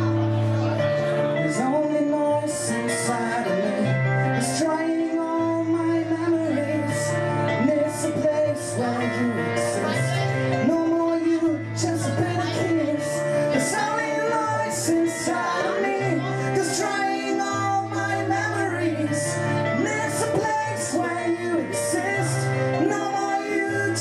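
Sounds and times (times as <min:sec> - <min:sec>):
keyboard: 0:00.0 - 0:24.0
man singing: 0:00.0 - 0:24.0.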